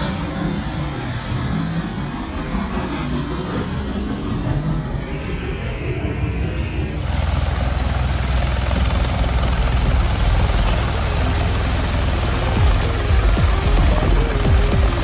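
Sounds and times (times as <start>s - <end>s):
tiltrotor aircraft hovering: 0.0s - 15.0s.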